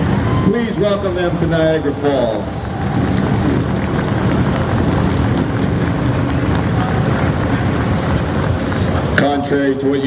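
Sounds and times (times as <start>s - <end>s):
motorcycle engines droning: 0.0s - 10.0s.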